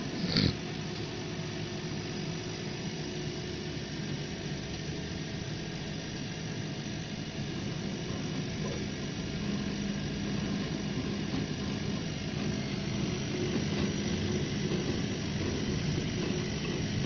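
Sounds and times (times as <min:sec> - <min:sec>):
laser engraving machine humming: 0:00.0 - 0:17.0.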